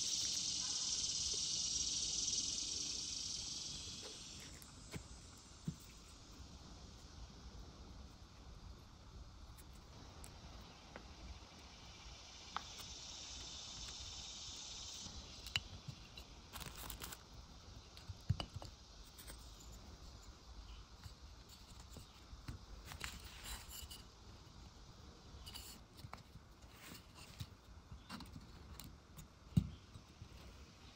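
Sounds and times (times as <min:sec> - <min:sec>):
faint hiss: 0:00.0 - 0:30.9.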